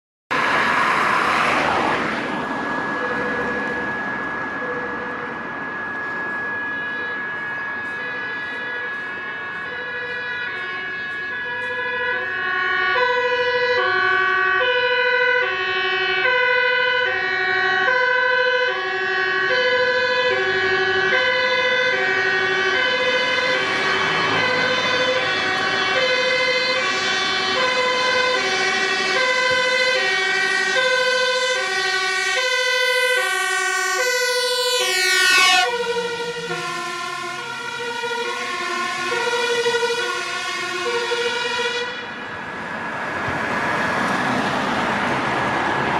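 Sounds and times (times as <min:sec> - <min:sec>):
fire engine two-tone siren: 0:00.3 - 0:45.9.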